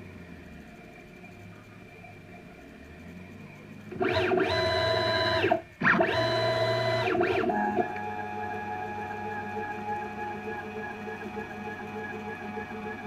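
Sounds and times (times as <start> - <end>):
stepper motor whine: 0.0 - 13.0.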